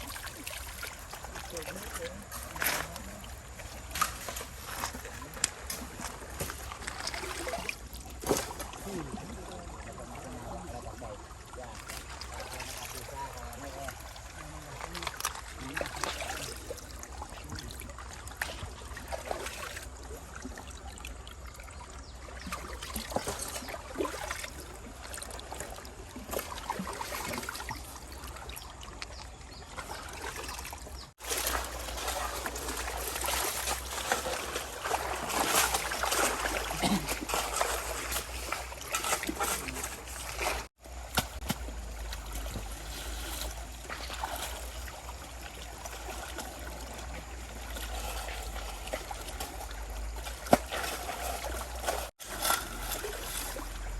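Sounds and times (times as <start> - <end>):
stream water trickling and splashing: 0.0 - 53.9.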